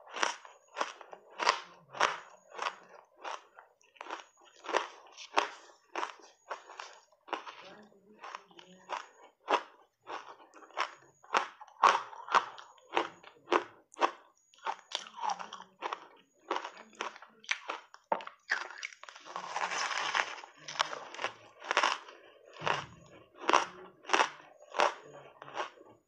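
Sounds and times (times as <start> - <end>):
ice being chewed crunching: 0.0 - 26.0.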